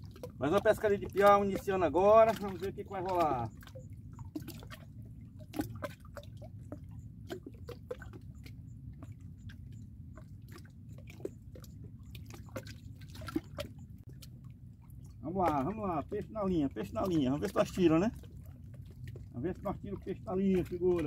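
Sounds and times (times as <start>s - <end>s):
low steady rumble: 0.0s - 21.0s
small water drips: 0.0s - 21.0s
water lapping softly: 0.0s - 21.0s.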